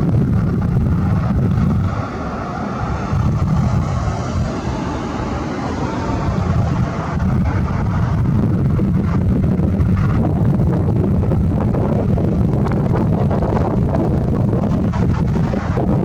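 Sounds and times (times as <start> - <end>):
helicopter turbine and rotors: 0.0 - 16.0.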